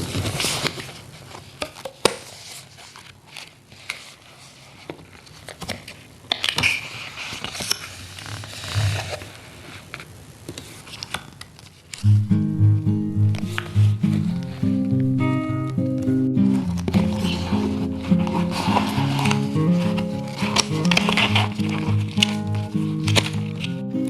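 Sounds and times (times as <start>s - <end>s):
paper crinkling and rustling: 0.0s - 12.0s, 16.4s - 24.0s.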